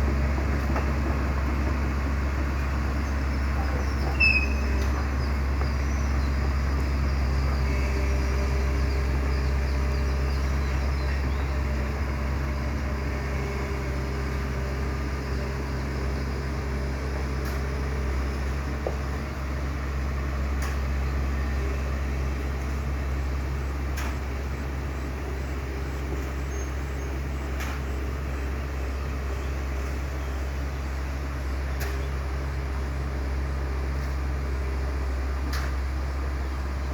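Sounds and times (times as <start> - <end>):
diesel engine droning: 0.0 - 36.9.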